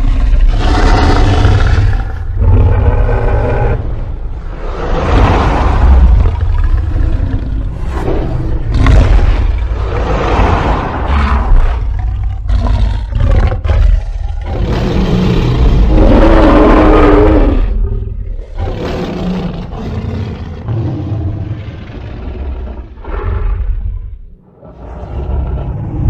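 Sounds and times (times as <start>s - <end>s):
monster growls and roars: 0.0s - 26.0s.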